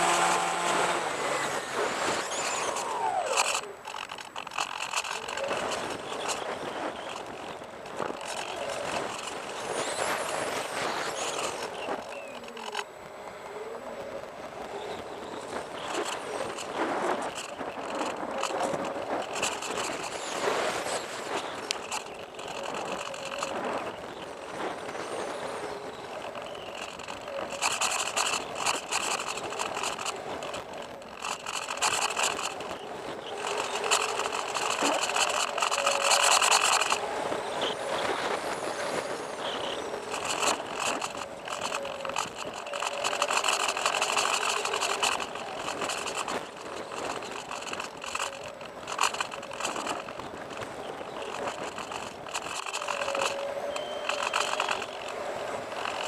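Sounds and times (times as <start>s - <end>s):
electric motor drone: 0.0s - 56.0s.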